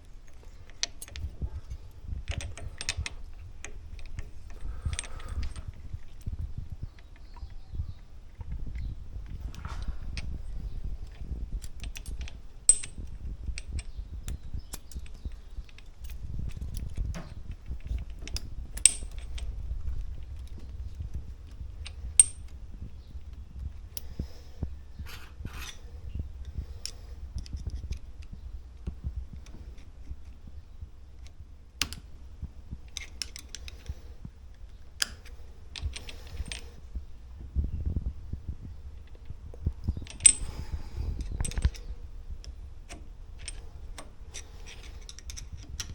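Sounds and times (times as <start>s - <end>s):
low steady rumble: 0.0s - 45.9s.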